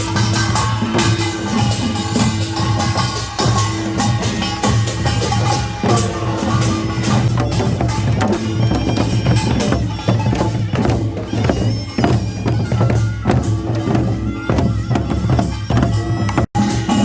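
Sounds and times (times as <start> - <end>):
reedy wind instrument melody: 0.0 - 17.0
struck drums and percussion: 0.0 - 17.0.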